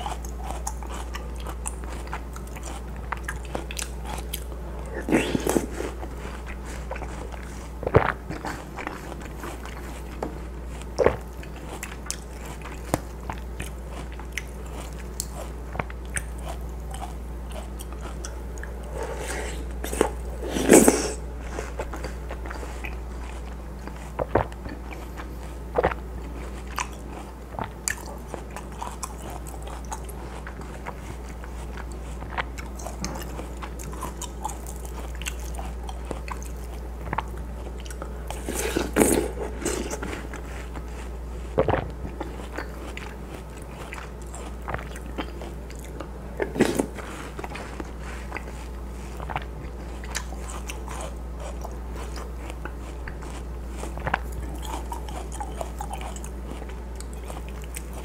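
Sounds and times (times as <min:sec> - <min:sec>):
chewing and biting fruit: 0:00.0 - 0:58.0
steady low hum: 0:00.0 - 0:58.0.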